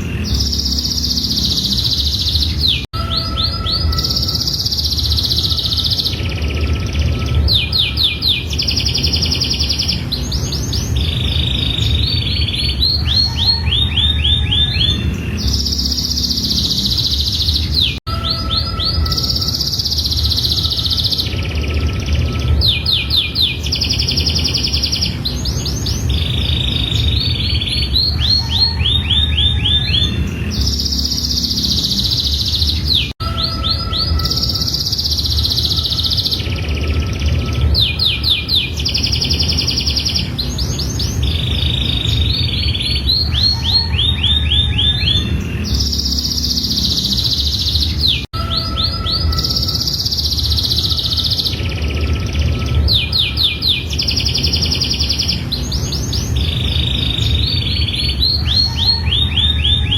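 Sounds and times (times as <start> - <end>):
steady low rumble: 0.0 - 18.1, 18.8 - 58.7
canary singing trills: 0.0 - 59.9.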